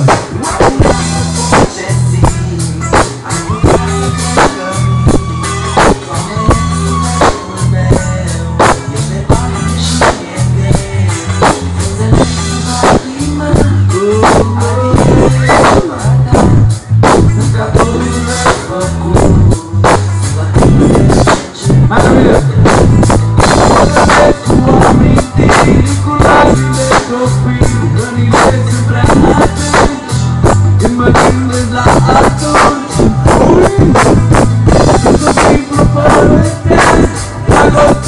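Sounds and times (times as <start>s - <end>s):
people singing: 0.0s - 16.2s, 23.6s - 38.0s
bass and electric guitar: 0.0s - 38.0s
drum kit steady beat: 0.0s - 38.0s.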